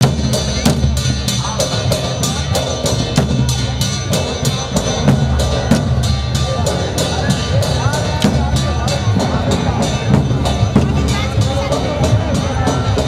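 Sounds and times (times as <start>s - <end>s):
deep drum beat: 0.0s - 13.0s.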